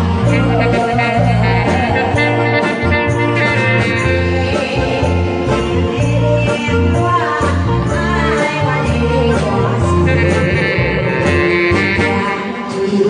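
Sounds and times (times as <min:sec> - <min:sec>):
person singing: 0:00.0 - 0:13.0
song accompaniment with bass line: 0:00.0 - 0:13.0.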